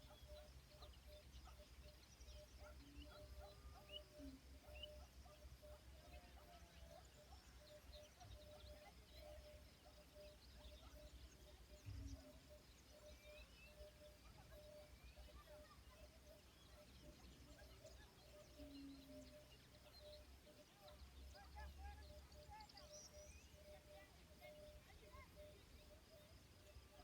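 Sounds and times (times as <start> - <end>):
faint pulsing tone: 0.0 - 27.0
small birds chirping: 0.0 - 27.0.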